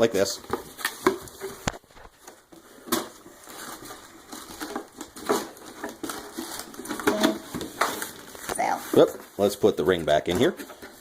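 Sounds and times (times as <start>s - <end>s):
plastic crinkling and rustling: 0.0s - 11.0s
sharp plastic crackles: 0.0s - 11.0s.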